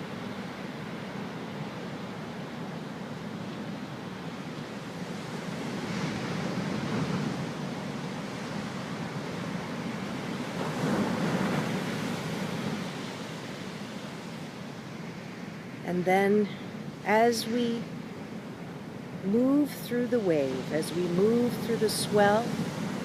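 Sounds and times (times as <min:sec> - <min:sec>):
ocean waves surging: 0:00.0 - 0:23.0.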